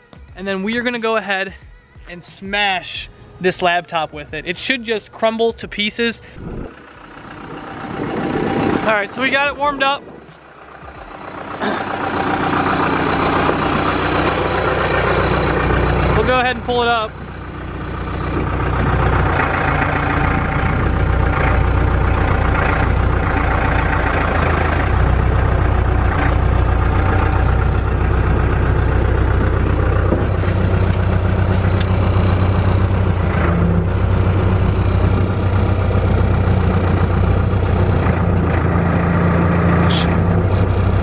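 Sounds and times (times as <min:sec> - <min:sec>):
diesel engine running: 0:02.5 - 0:41.0.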